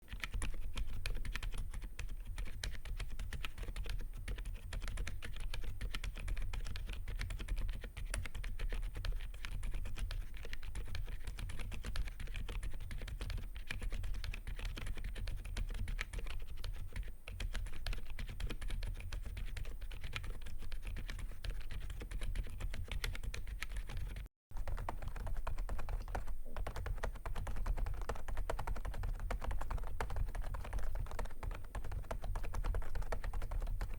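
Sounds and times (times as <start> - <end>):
soft keyboard typing: 0.0 - 33.9.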